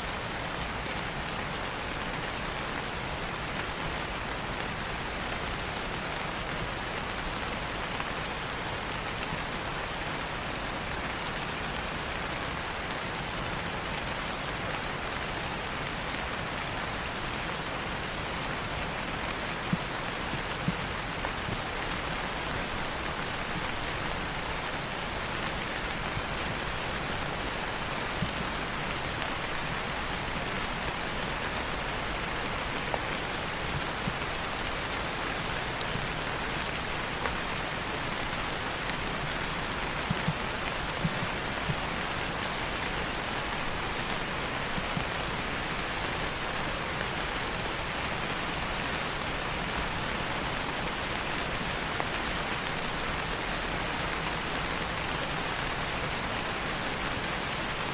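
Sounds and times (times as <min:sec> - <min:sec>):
rain falling on leaves: 0:00.0 - 0:57.9.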